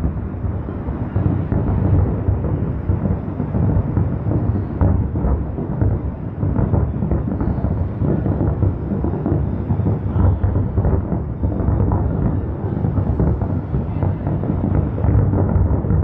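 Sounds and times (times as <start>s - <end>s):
fireworks booming: 0.0s - 16.0s
sharp firework pops: 0.0s - 16.0s.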